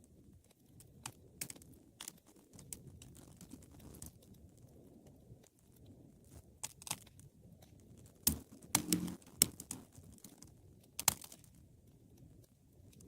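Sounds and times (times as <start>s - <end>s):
low rustle of flames: 0.0s - 13.0s.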